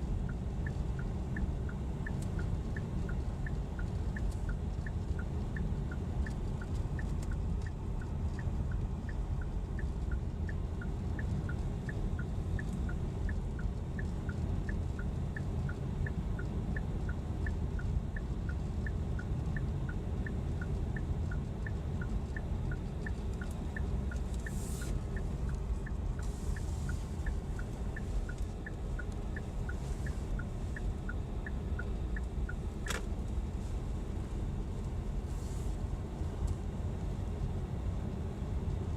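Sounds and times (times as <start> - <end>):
engine and tyre rumble: 0.0 - 38.9.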